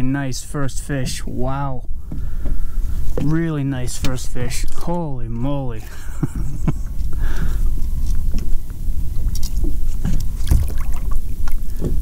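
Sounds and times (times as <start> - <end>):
water sloshing against boat: 0.0 - 12.0.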